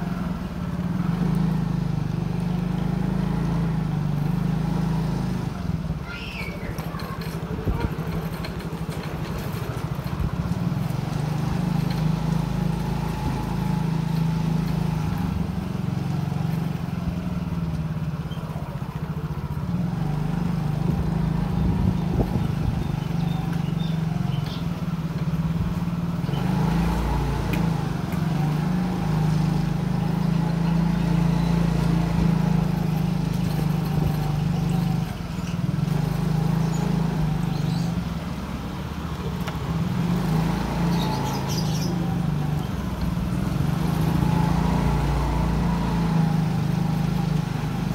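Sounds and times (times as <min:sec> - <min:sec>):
road and wind noise: 0:00.0 - 0:47.9
small motorcycle engine running: 0:00.0 - 0:47.9.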